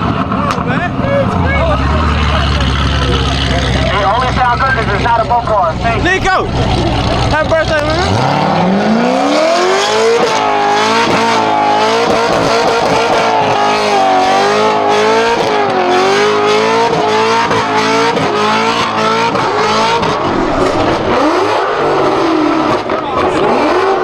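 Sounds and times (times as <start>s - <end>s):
car engine revving at high revs: 0.0s - 24.0s.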